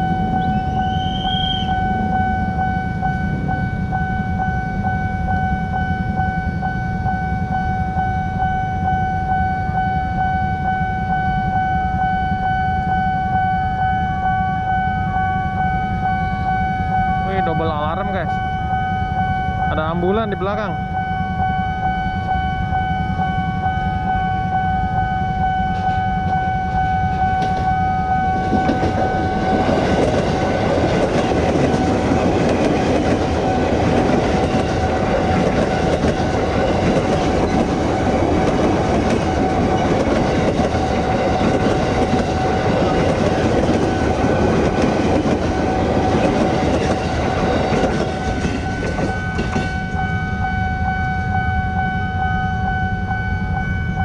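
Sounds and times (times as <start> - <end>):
crossing warning alarm: 0.0 - 54.0
electric train passing: 0.0 - 54.0.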